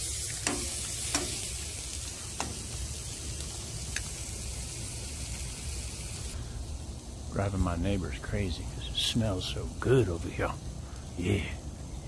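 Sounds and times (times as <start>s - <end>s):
steak sizzling on a grill: 0.0s - 12.0s.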